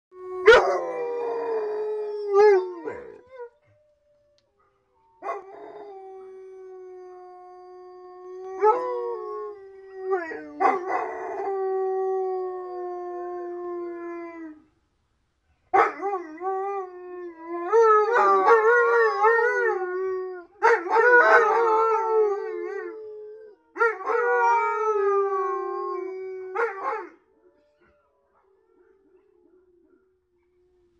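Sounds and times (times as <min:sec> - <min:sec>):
dogs howling: 0:00.2 - 0:14.6, 0:15.8 - 0:27.2.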